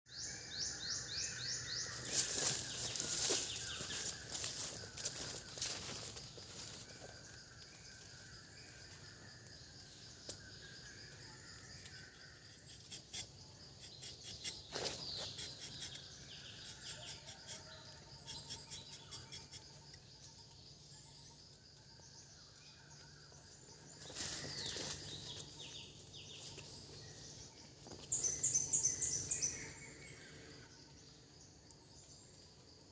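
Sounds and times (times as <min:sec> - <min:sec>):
birds calling and singing: 0:00.1 - 0:32.3
high insect drone: 0:00.2 - 0:32.9.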